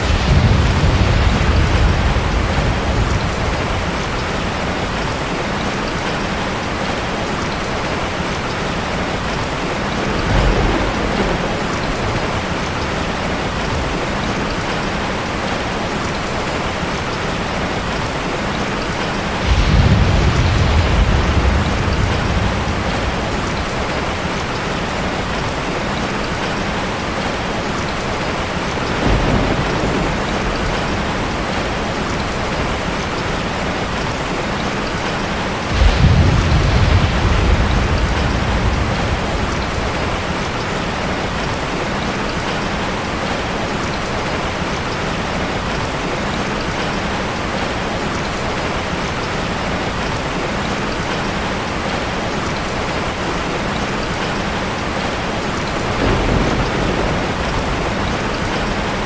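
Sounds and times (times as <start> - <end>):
thunder rumbling: 0.0 - 47.7, 52.7 - 59.0
heavy rain: 0.0 - 59.0.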